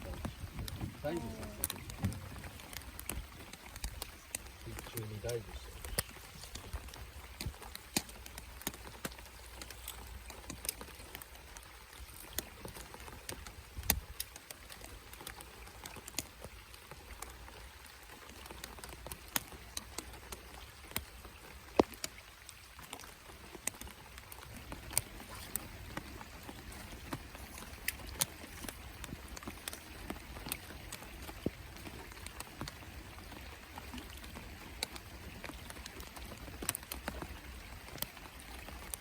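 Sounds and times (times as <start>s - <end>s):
rain hiss: 0.0s - 39.0s
raindrops ticking: 0.0s - 39.0s.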